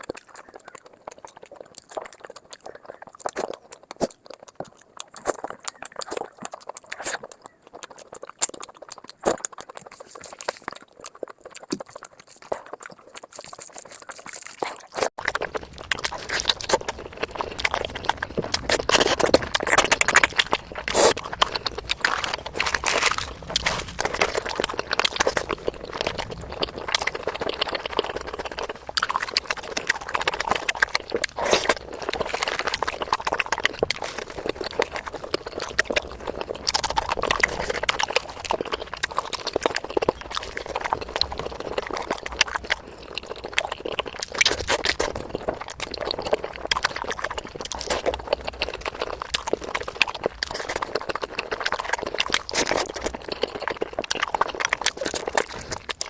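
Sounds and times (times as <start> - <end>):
small clicks and squelches: 0.0 - 56.0
wet chewing and lip-smacking: 0.0 - 56.0.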